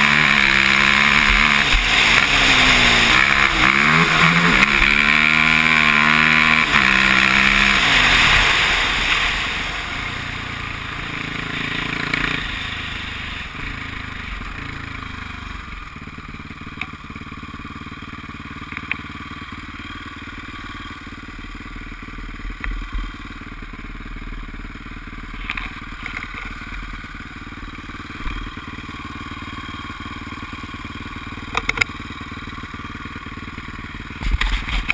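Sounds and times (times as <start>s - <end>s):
quad engine idling: 0.0s - 34.9s.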